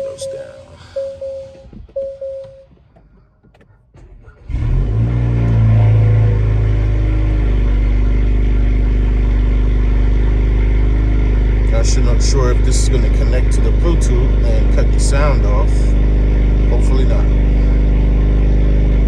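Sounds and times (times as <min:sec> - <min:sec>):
car engine starting and idling: 0:00.0 - 0:19.0.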